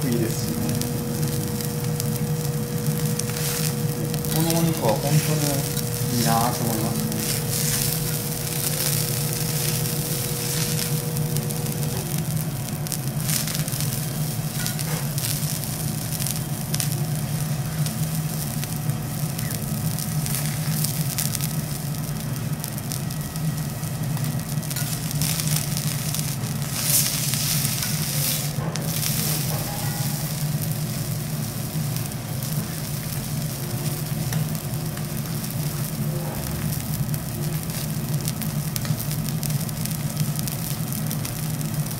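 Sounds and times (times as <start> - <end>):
low hum: 0.0 - 41.9
steak sizzling on griddle: 0.0 - 41.9.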